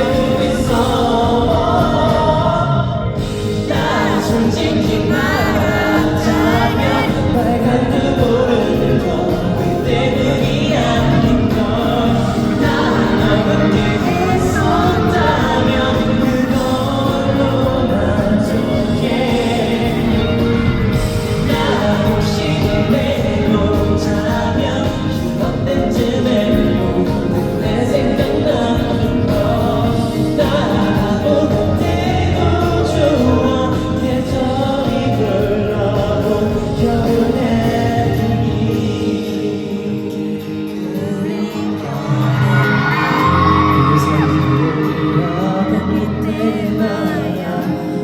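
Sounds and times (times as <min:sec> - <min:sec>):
live band playing: 0:00.0 - 0:48.0
male vocal singing pop song: 0:00.0 - 0:48.0.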